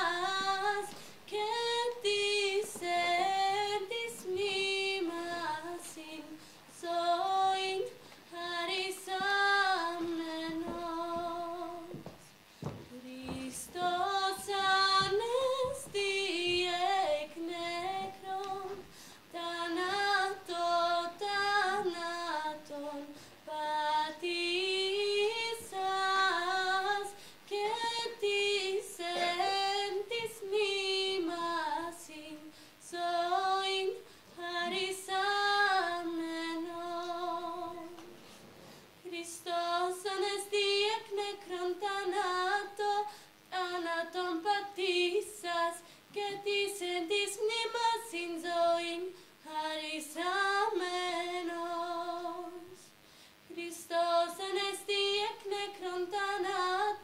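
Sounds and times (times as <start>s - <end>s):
woman singing unaccompanied: 0.0s - 12.1s, 12.8s - 38.0s, 39.0s - 57.0s.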